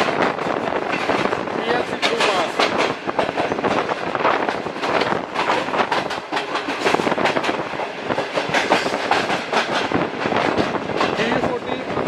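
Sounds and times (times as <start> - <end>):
steady train rolling noise: 0.0 - 12.0
train wheels clattering over rail joints: 0.0 - 12.0.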